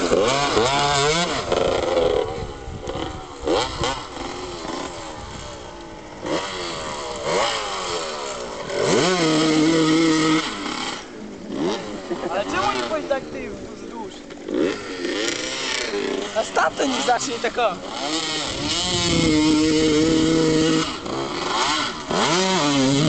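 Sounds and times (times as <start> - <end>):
bike ploughing through water: 0.0 - 23.0
motocross bike engine revving: 0.0 - 23.0.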